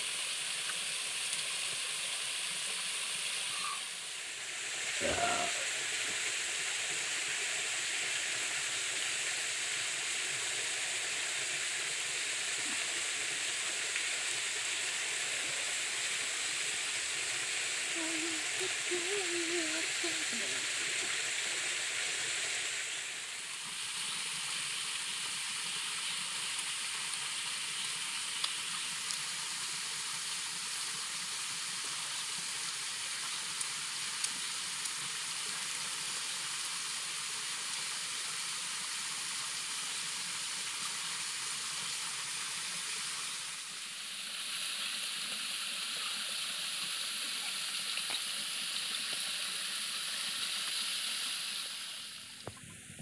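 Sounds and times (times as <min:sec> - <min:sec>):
waterfall and stream rushing: 0:00.0 - 0:28.3, 0:34.6 - 0:52.5.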